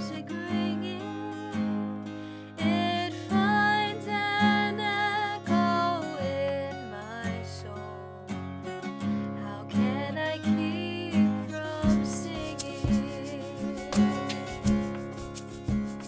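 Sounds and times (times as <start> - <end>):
woman singing: 0.0 - 8.1, 9.3 - 15.4
acoustic guitar strumming: 0.0 - 16.0.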